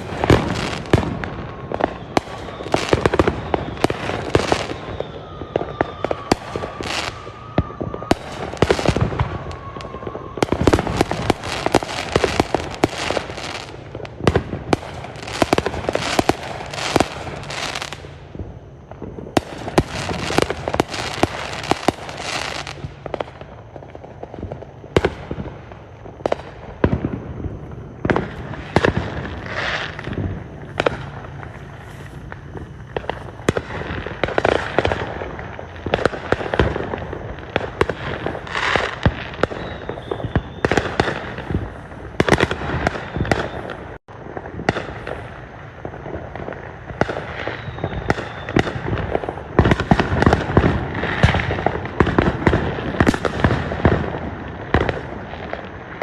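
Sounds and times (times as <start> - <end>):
fireworks bangs and pops: 0.0 - 56.0
fireworks crackling: 0.0 - 56.0.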